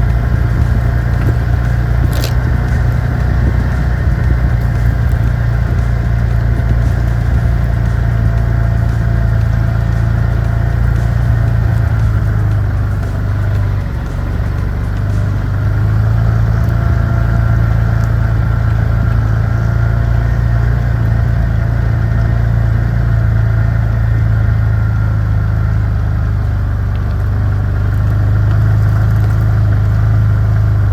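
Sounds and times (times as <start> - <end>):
excavator engine humming: 0.0 - 30.9.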